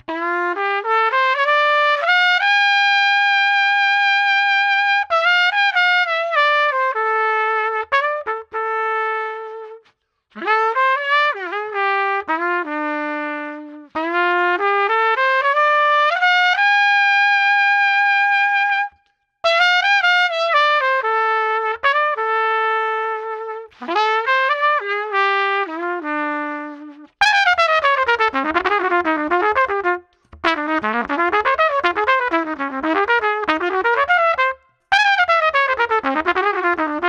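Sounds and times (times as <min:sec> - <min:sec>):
solo trumpet melody: 0:00.0 - 0:37.0.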